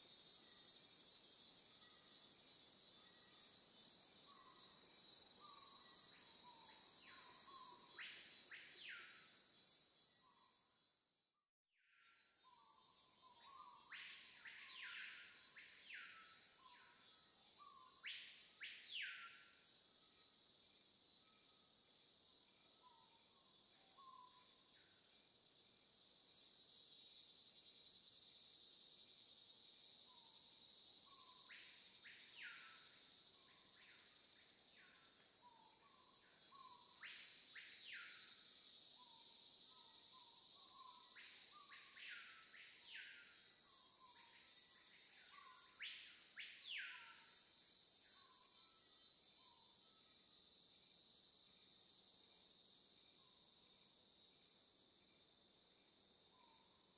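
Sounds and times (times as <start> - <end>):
high-pitched insect droning: 0.0 - 11.0, 12.2 - 56.9.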